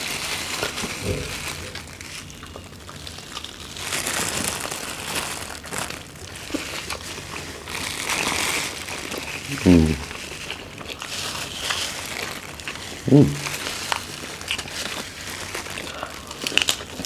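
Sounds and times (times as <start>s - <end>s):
chewing: 0.0s - 3.9s, 5.6s - 17.0s
plastic gloves crinkling: 0.0s - 17.0s.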